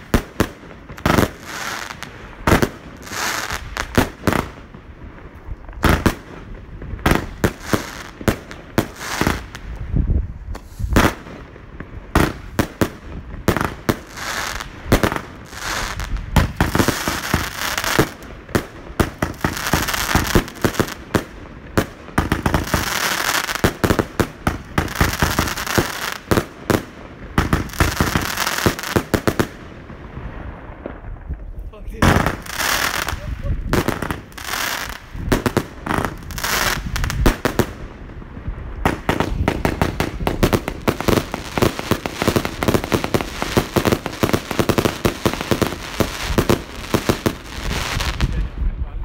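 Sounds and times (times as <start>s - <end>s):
firework crackling: 0.0s - 48.8s
firework aerial bursts: 0.0s - 49.0s.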